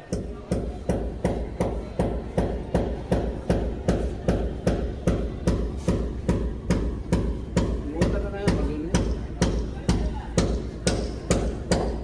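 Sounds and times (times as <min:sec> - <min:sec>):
rapid hammer blows: 0:00.0 - 0:12.0.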